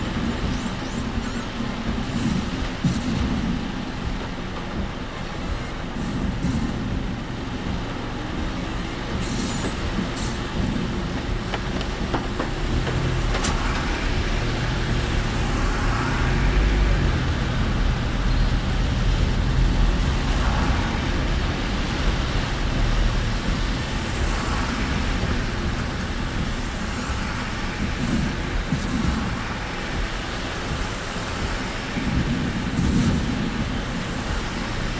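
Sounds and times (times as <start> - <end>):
car engine and tyres rumbling: 0.0 - 34.9
rain and wind hiss: 0.0 - 34.9.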